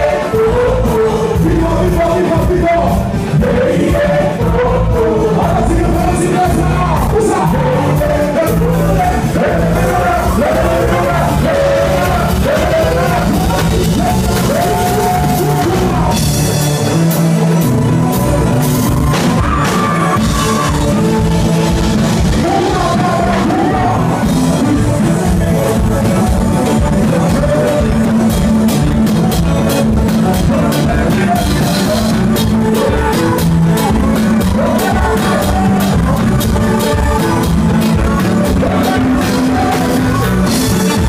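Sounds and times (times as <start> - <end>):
men singing: 0.0 - 16.4, 19.0 - 41.0
live band playing: 0.0 - 41.0.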